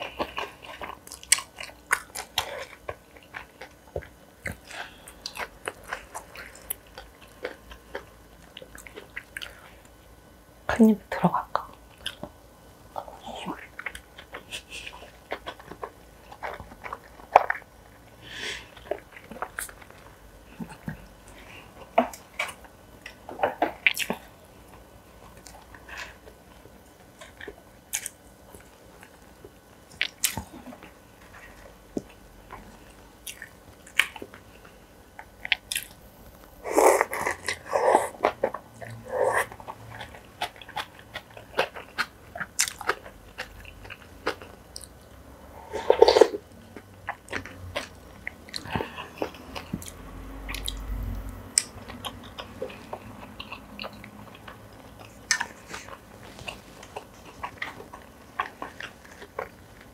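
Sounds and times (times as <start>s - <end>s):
person chewing dumplings: 0.0s - 10.4s, 11.6s - 59.9s.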